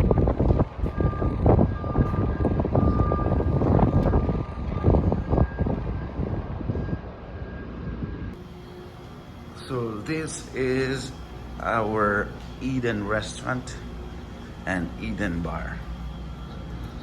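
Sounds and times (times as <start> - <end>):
heavy low rumble: 0.0 - 17.0
steady machine drone: 0.0 - 17.0
thin steady whine: 0.0 - 17.0.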